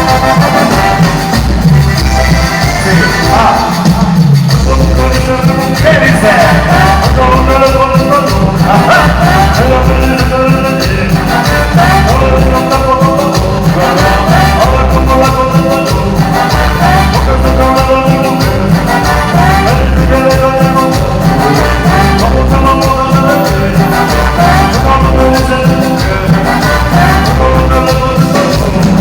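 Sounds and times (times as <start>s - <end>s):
band playing latin dance music: 0.0s - 29.0s.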